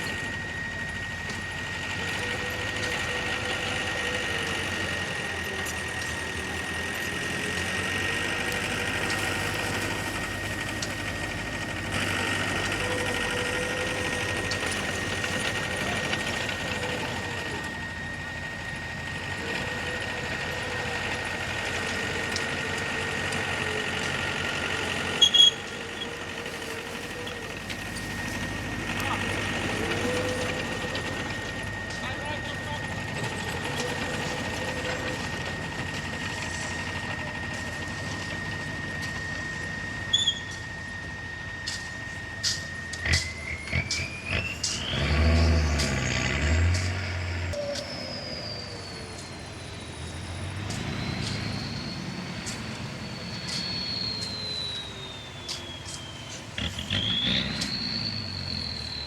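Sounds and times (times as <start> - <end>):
diesel engine running: 0.0 - 59.0
high whine: 0.0 - 59.0.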